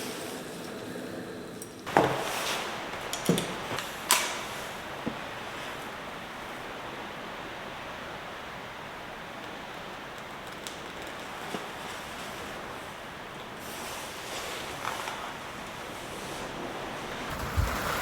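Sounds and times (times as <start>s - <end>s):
wind: 0.0s - 18.0s
heavy rain: 1.9s - 18.0s.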